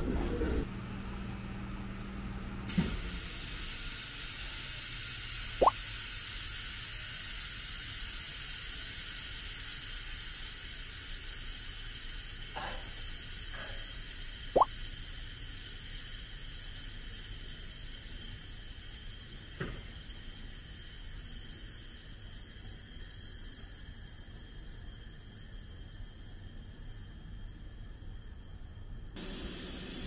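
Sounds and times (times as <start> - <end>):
train equipment humming and hissing: 0.3 - 30.0.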